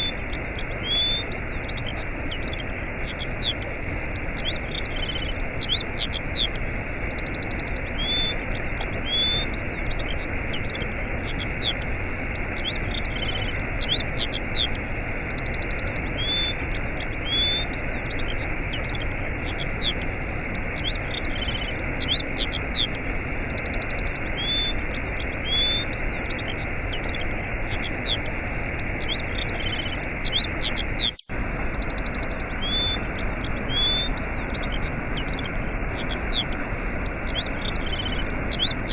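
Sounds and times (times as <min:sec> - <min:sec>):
small birds chirping and trilling: 0:00.0 - 0:38.9
waterfall rushing: 0:00.0 - 0:38.9.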